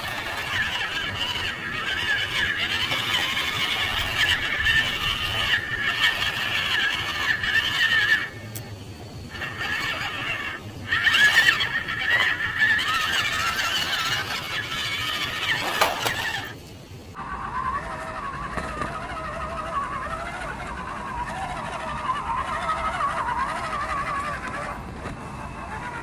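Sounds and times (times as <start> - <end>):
electric motor and gearbox whining: 0.0 - 26.0.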